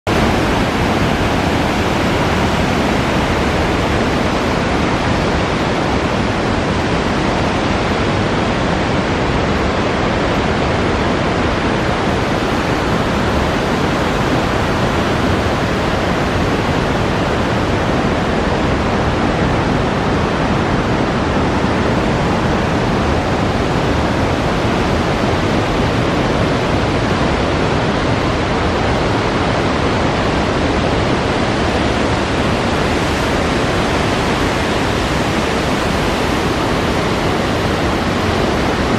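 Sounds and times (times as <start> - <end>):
water rushing over spillway: 0.0 - 38.9.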